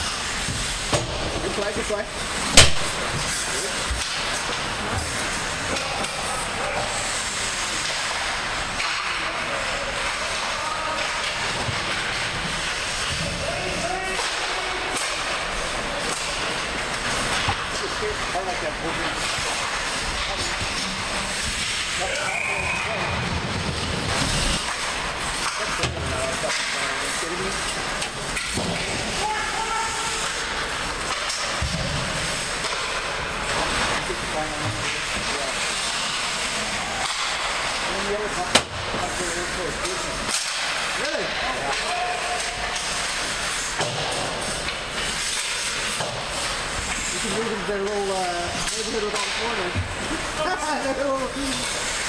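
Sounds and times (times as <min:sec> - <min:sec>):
skates scraping on ice: 0:00.0 - 0:52.0
arena noise: 0:00.4 - 0:52.0.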